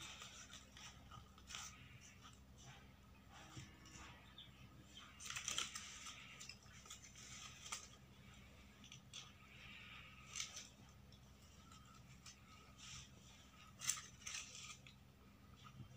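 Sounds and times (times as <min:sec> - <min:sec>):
low steady hum: 0:00.0 - 0:15.9
stiff paper rustling: 0:00.0 - 0:15.9.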